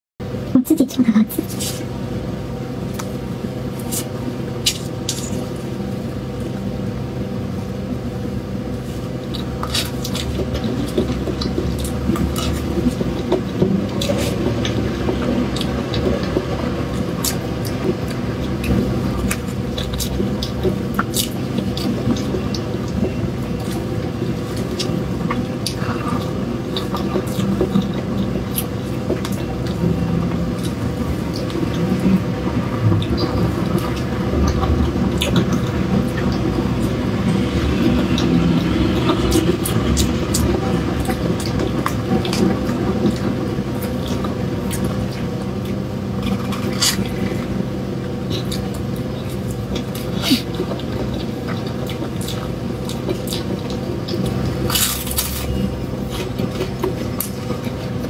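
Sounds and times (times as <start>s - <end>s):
low rumble and hum: 0.2s - 58.0s.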